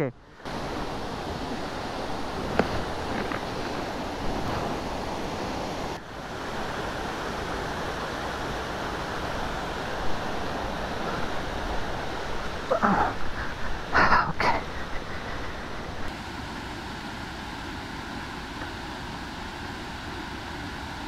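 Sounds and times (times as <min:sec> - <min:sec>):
stream flowing: 0:00.2 - 0:21.0
small waterfall rushing: 0:00.4 - 0:21.0.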